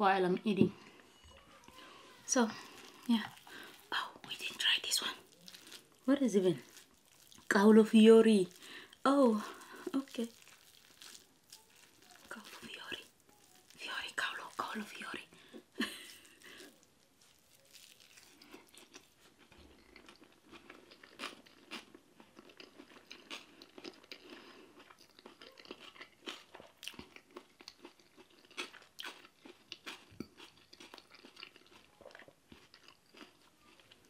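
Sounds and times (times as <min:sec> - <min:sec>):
chewing with small crunches: 0:00.8 - 0:34.0.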